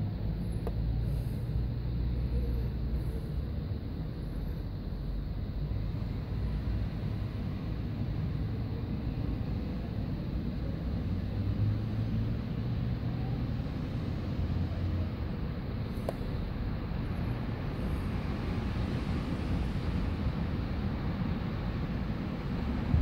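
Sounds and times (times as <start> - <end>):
muffled underwater rumble and hiss: 0.0 - 23.0.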